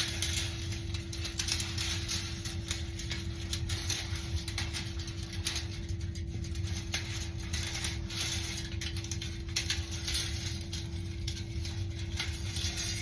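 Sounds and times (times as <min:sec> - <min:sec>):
metallic clicking and rattling: 0:00.0 - 0:13.0
steady low hum: 0:00.0 - 0:13.0.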